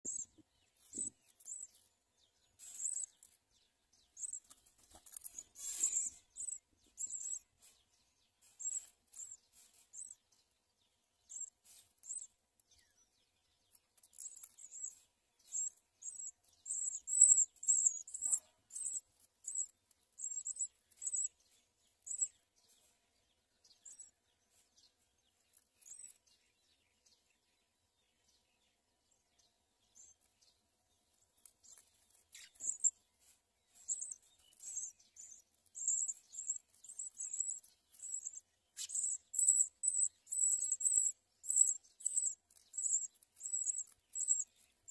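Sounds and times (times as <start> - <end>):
nestlings chirping: 0.0 - 27.4, 29.3 - 44.9.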